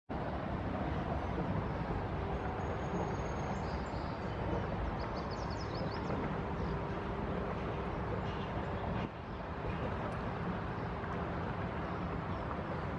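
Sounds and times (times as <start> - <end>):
city background rumble: 0.1 - 12.9.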